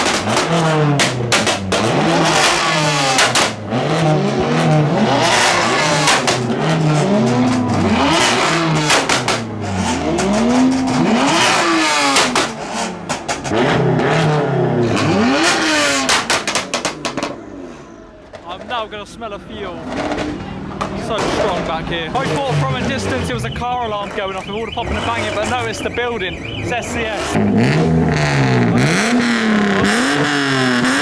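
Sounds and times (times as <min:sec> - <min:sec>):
exhaust pops and bangs: 0:00.0 - 0:17.4, 0:19.8 - 0:31.0
car engine revving: 0:00.0 - 0:31.0.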